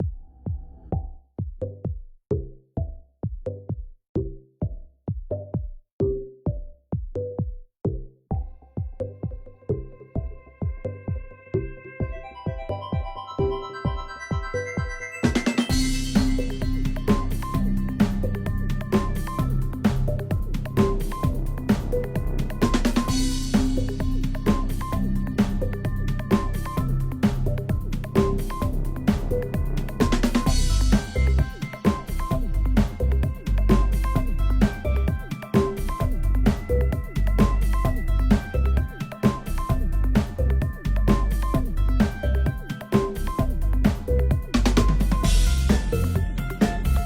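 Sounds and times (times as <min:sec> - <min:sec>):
electronic music with drum-machine beat: 0:00.0 - 0:47.0.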